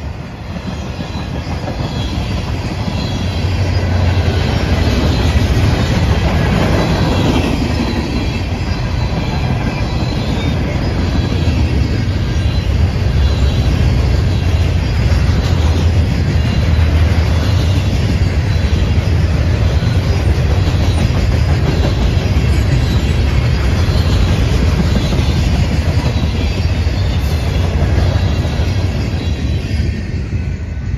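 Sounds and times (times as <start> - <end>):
freight train wheels clattering: 0.0 - 30.9.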